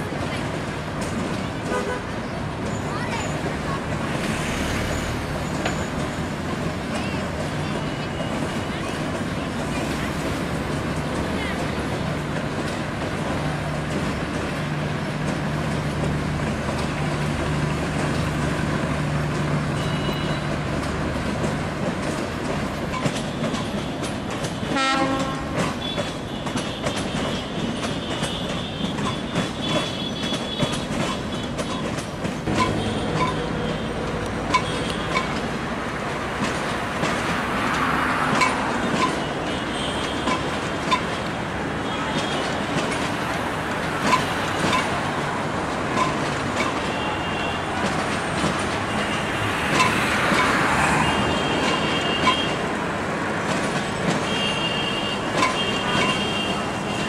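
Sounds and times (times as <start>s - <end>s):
locomotive drone: 0.0s - 57.0s
train wheels clicking over rail joints: 0.0s - 57.0s.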